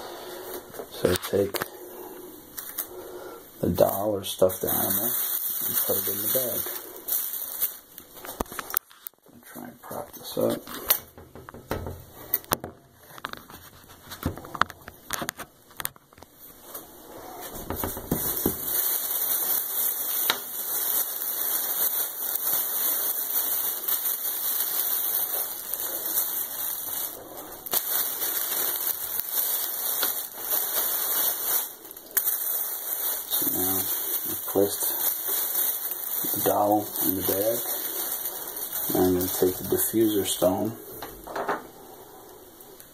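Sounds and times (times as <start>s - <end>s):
plastic bag crinkling: 0.9s - 9.2s, 13.0s - 41.0s.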